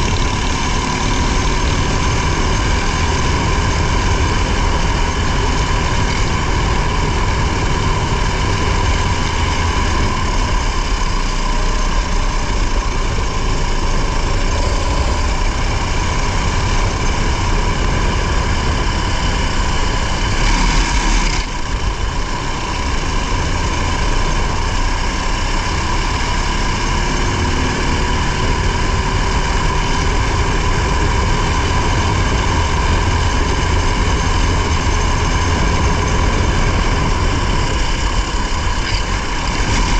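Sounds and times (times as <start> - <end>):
racing engine running hard: 0.0 - 39.9
road noise: 0.0 - 39.9
wind noise: 0.0 - 39.9.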